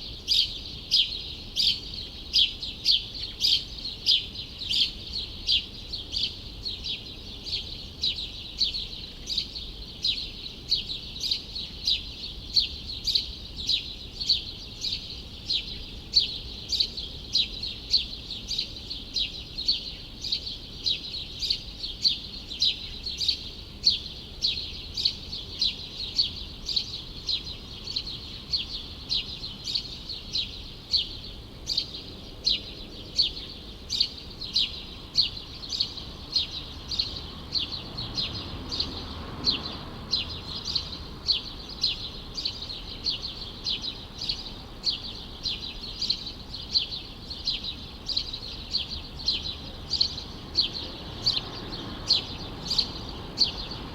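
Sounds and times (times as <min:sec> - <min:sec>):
small songbird chirping: 0:00.0 - 0:53.9.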